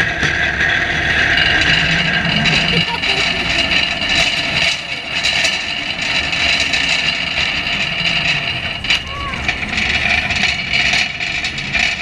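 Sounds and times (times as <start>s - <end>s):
cart wheels rolling on concrete: 0.0s - 12.0s
wire basket rattling: 1.4s - 12.0s.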